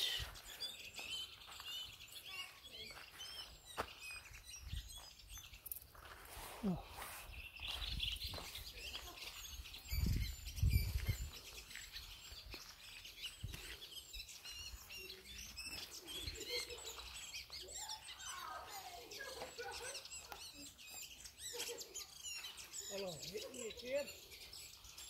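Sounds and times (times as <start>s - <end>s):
songbirds chirping and singing: 0.0s - 25.0s.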